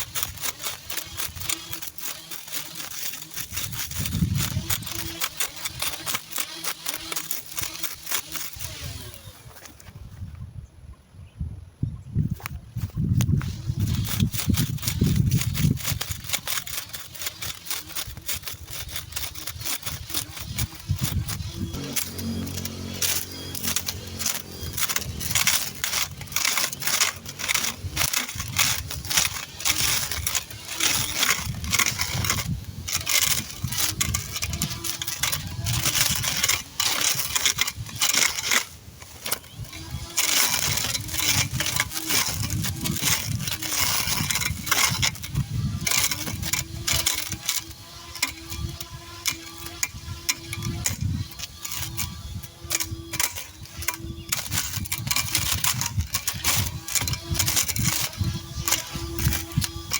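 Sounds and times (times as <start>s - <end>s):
electric cutter motor running: 0.0s - 9.5s, 13.4s - 59.9s
stems crackling against blade: 0.0s - 9.9s, 12.4s - 59.9s.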